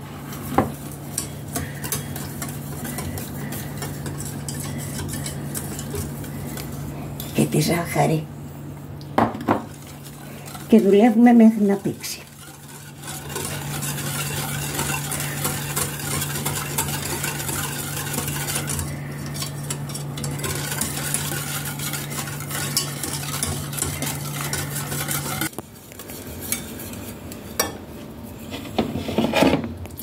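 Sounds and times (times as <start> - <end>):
whisk scraping a saucepan: 0.0 - 8.1, 9.5 - 29.7.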